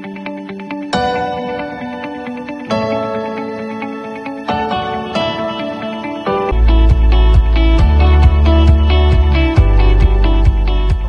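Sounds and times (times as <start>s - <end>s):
soft plucked guitar music: 0.0s - 11.0s.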